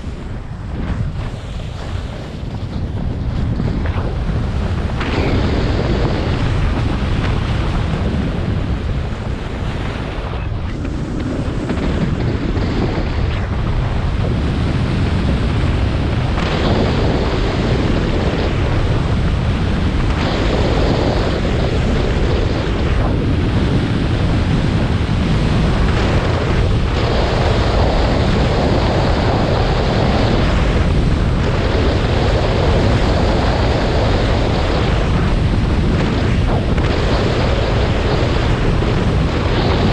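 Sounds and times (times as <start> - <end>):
snowboard scraping snow: 0.0 - 39.9
wind on microphone: 0.0 - 39.9.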